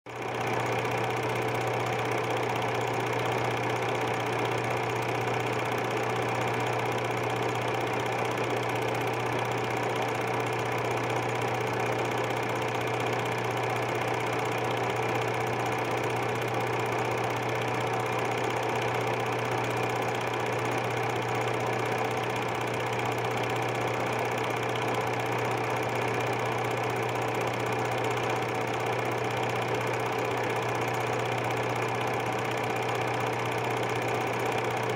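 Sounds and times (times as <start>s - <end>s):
film projector running: 0.1s - 34.9s.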